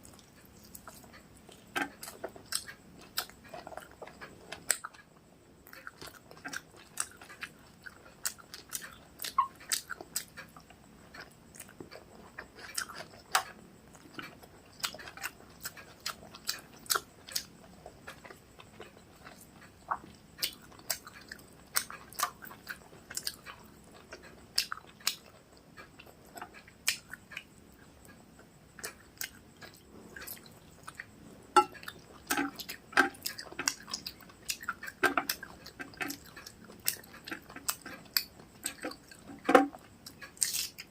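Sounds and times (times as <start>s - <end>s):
chewing and mouth sounds: 0.0s - 40.9s.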